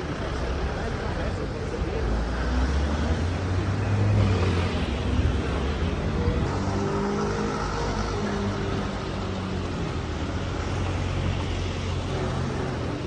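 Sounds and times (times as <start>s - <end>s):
car engine passing by: 0.0s - 13.0s
steady traffic noise: 0.0s - 13.0s.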